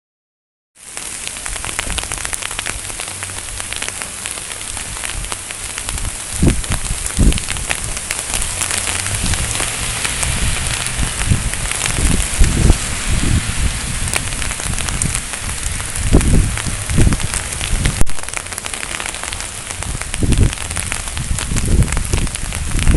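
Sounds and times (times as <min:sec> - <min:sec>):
sleet and rain pattering: 0:00.8 - 0:22.9
wind buffeting microphone: 0:01.4 - 0:22.9.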